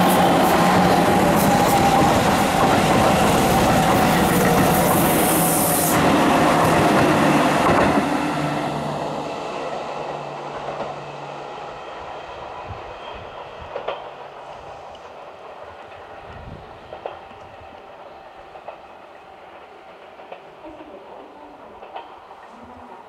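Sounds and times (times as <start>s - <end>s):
electric train running on track: 0.0s - 23.0s.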